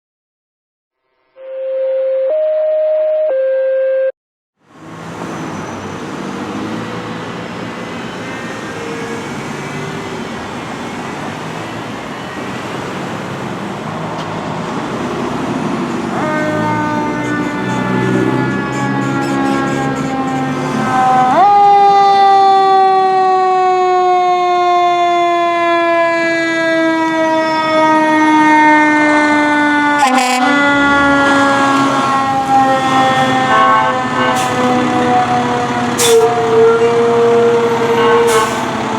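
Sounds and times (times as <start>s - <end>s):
road traffic and idling engines: 4.6s - 38.9s.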